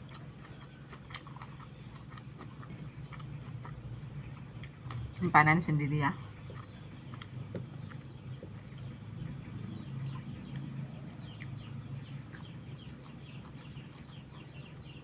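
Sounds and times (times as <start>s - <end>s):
birds chirping: 0.0s - 15.0s
low steady hum: 0.0s - 15.0s.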